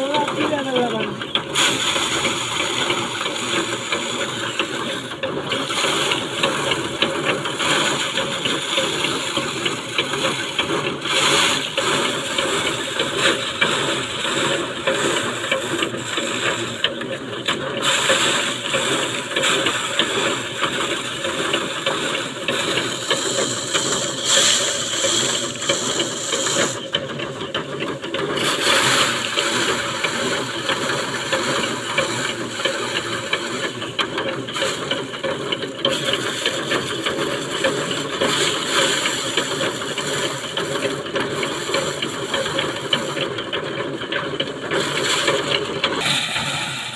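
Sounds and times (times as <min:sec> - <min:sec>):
thresher whirring and rattling: 0:00.0 - 0:46.9.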